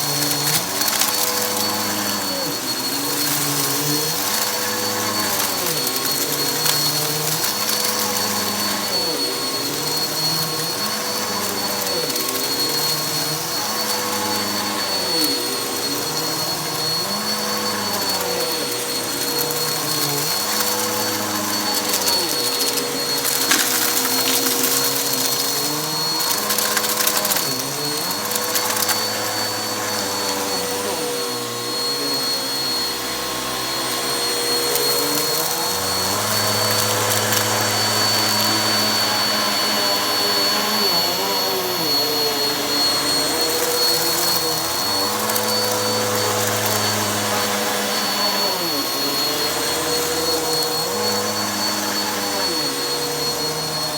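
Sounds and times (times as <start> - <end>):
vacuum cleaner on carpet: 0.0 - 53.9.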